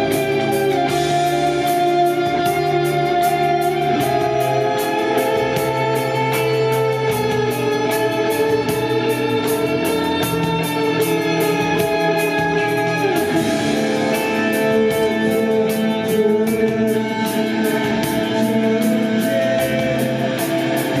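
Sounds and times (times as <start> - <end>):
electric guitar chords: 0.0 - 21.0
live rock band playing: 0.0 - 21.0.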